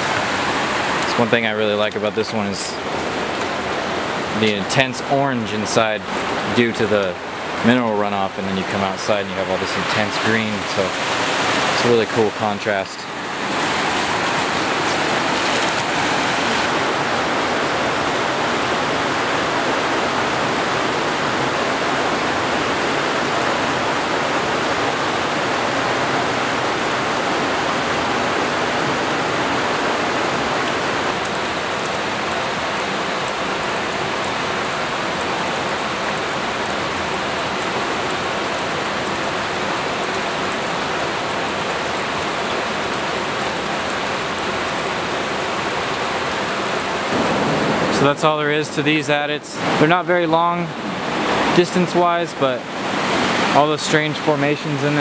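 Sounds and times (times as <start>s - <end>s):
creek rapids rushing: 0.0s - 55.0s.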